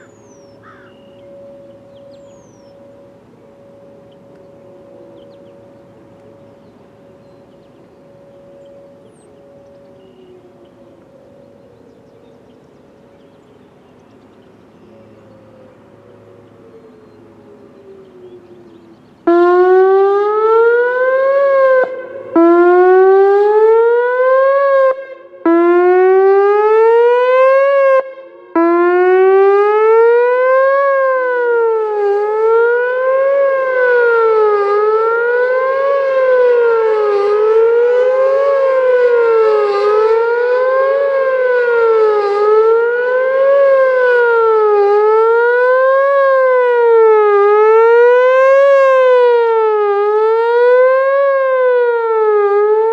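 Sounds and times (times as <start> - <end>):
electronic warning siren wailing: 0.0 - 52.9.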